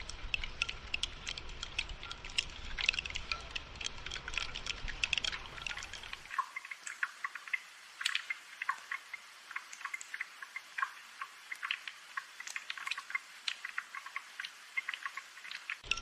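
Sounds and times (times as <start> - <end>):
light rain hiss: 0.0 - 16.0
raindrops pattering: 0.0 - 16.0.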